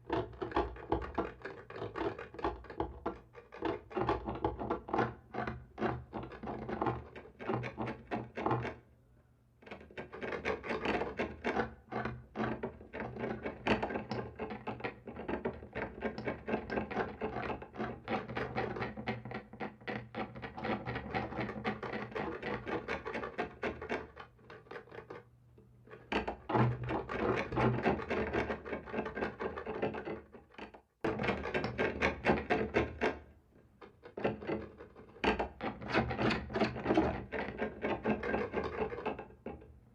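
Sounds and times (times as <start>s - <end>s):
scratching on a wall: 0.0s - 8.8s, 9.6s - 39.7s.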